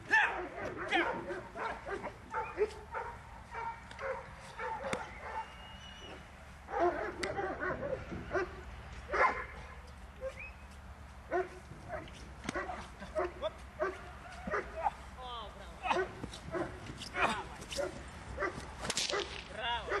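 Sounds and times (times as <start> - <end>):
puppy barking: 0.1 - 10.4, 11.3 - 15.0, 15.8 - 19.3.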